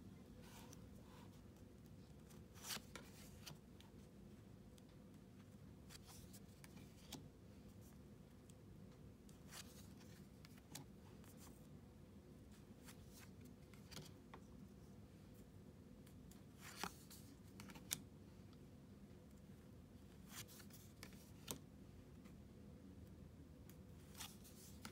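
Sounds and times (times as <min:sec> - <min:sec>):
low room hum: 0:00.0 - 0:24.9.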